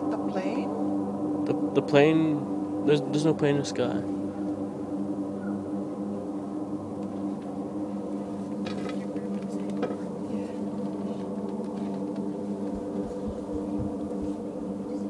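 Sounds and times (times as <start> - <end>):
low droning hum from the sky: 0.0 - 15.0.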